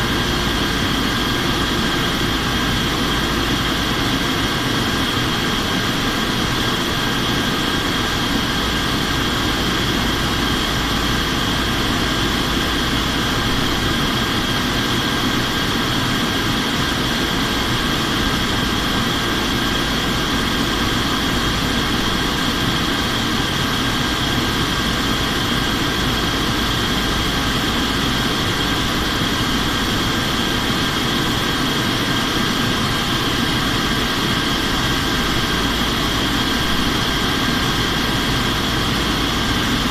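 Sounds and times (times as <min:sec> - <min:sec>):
aircraft engine rumble: 0:00.0 - 0:39.9
airflow rush: 0:00.0 - 0:39.9.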